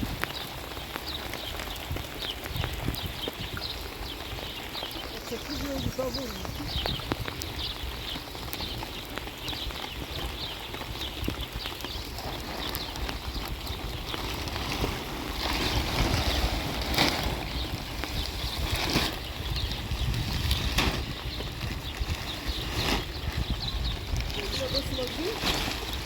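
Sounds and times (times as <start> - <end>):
rain: 0.0 - 26.0
wind buffeting microphone: 0.0 - 26.0.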